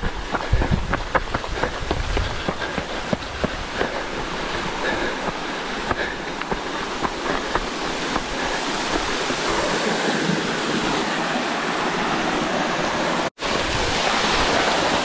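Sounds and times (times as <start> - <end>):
waterfall rushing onto rocks: 0.0 - 15.0.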